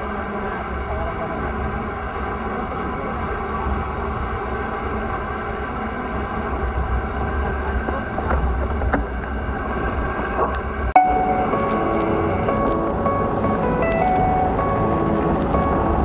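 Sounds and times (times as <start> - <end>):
tyres hissing on wet road: 0.0 - 16.0
wind buffeting microphone: 0.0 - 16.0.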